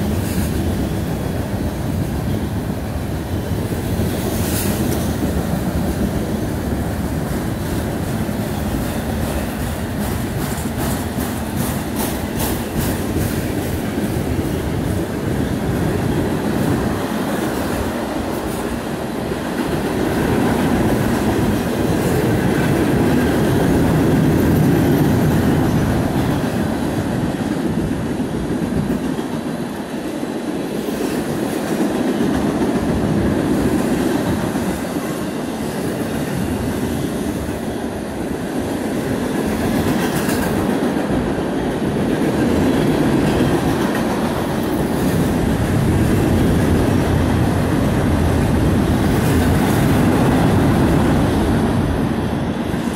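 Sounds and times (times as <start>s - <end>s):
freight train wheels rumbling on rails: 0.0s - 52.9s.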